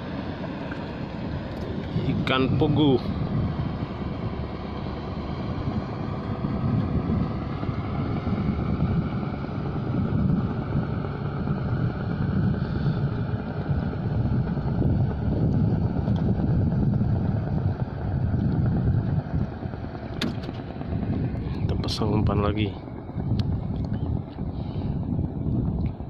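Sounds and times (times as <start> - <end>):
low rumble: 0.0 - 26.0
wind buffeting microphone: 0.0 - 26.0.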